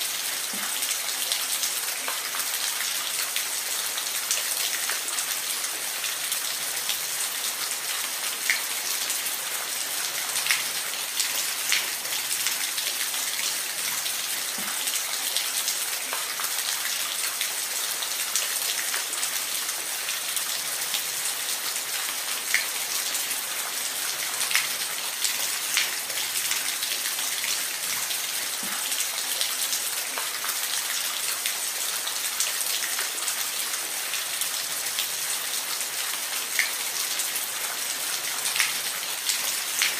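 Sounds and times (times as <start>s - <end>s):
water drips and splashes: 0.0s - 39.9s.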